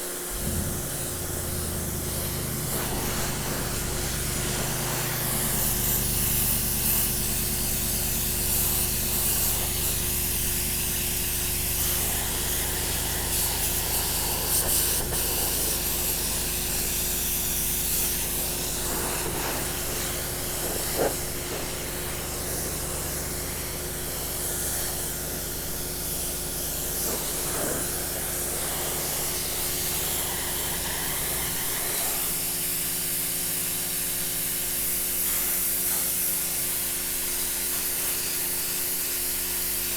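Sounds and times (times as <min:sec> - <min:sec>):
pressure washer jet hissing: 0:00.0 - 0:39.9
pressure washer motor hum: 0:00.0 - 0:39.9.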